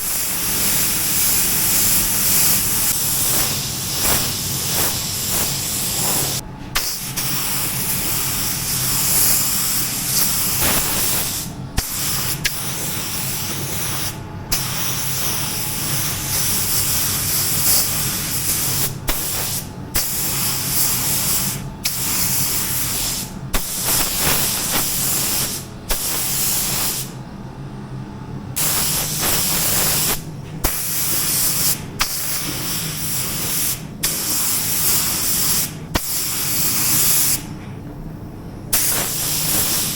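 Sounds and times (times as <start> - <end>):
paint spray gun hissing: 0.0 - 27.1, 28.6 - 37.4, 38.7 - 39.9.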